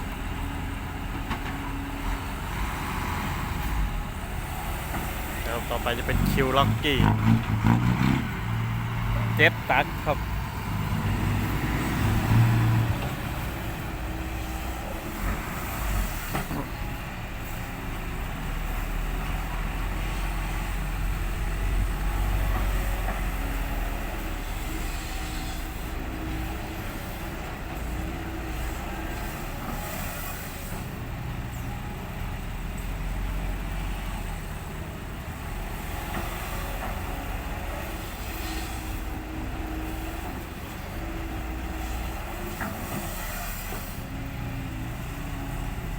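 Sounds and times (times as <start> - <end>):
heavy diesel engines rumbling: 0.0 - 45.9.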